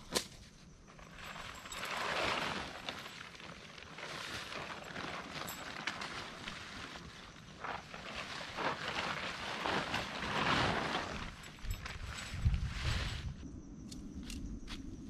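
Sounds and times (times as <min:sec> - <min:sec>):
nylon tent rustling and crinkling: 0:00.0 - 0:13.4.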